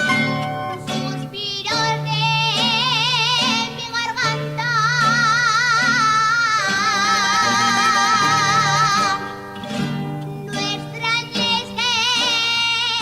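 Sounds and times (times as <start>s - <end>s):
plucked strings: 0.0s - 13.0s
woman singing with vibrato: 0.0s - 13.0s.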